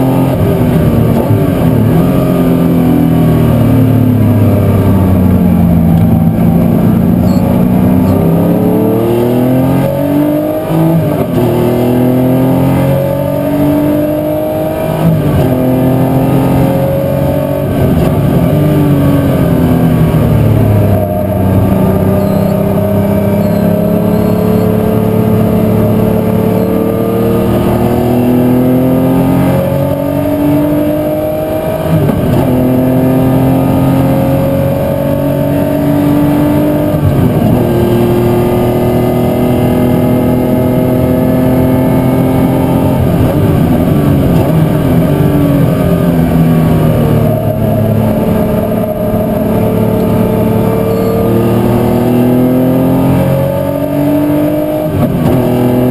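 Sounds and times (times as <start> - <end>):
racing car engine accelerating: 0.0 - 55.9.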